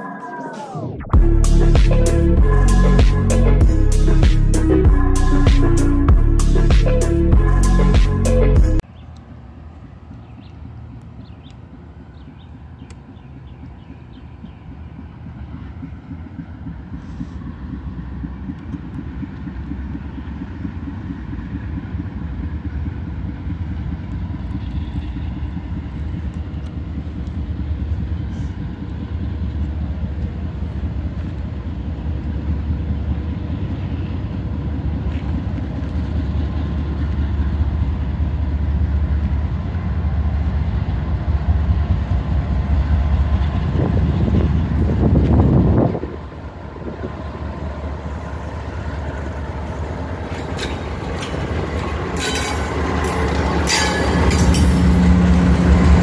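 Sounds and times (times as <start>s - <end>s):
diesel locomotive engine rumble: 0.1s - 56.0s.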